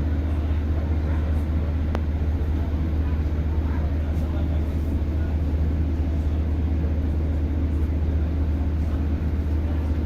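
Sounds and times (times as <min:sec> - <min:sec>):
diesel train engine drone: 0:00.0 - 0:10.0.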